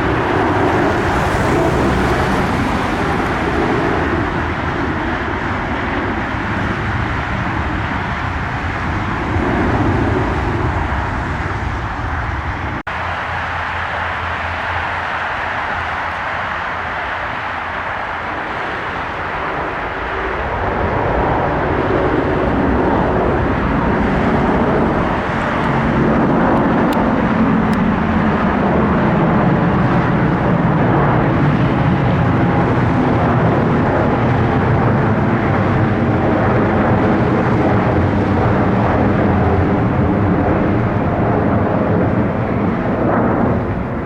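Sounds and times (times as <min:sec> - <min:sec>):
airliner engines passing: 0:00.0 - 0:44.0.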